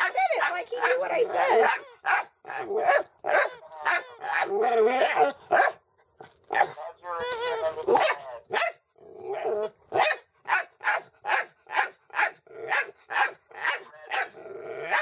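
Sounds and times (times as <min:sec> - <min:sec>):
dog barking: 0:00.0 - 0:05.8, 0:06.5 - 0:06.9, 0:07.9 - 0:08.8, 0:09.9 - 0:15.0.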